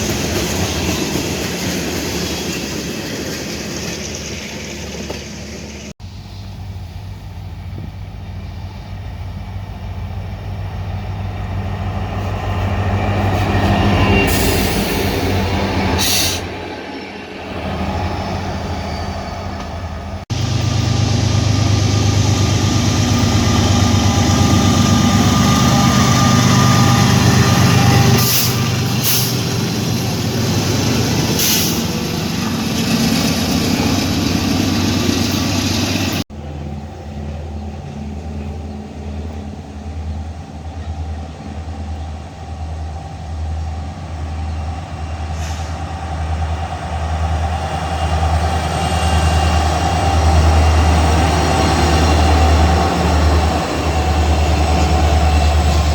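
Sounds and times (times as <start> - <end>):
freight train rumble: 0.0 - 55.9
train rhythmic low pulsing: 0.0 - 55.9.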